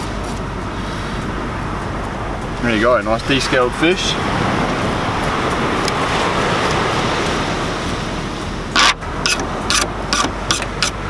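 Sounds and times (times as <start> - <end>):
surf breaking: 0.0 - 10.8
wind: 0.0 - 11.0.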